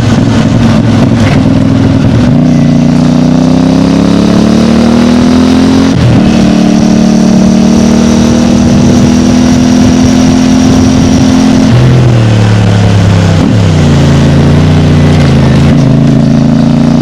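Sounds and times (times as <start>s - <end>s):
motorcycle engine under throttle: 0.0s - 17.0s.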